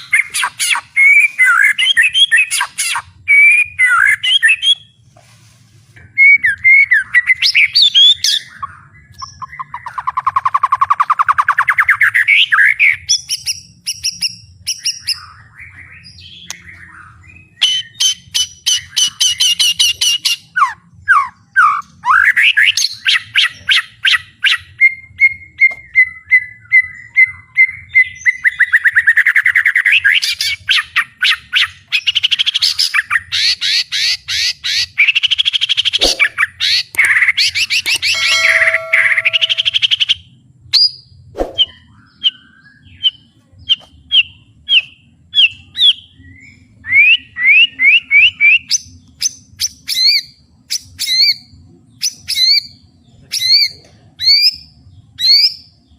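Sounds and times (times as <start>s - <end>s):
songbird singing varied song: 0.0s - 5.0s, 6.0s - 55.9s.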